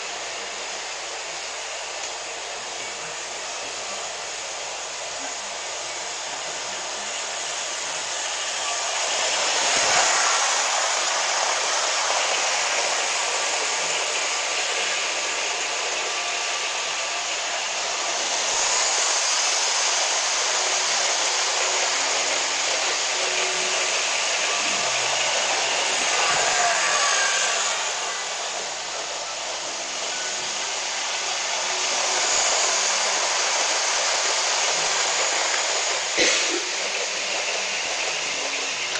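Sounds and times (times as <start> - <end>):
model train whirring on track: 0.0 - 38.9.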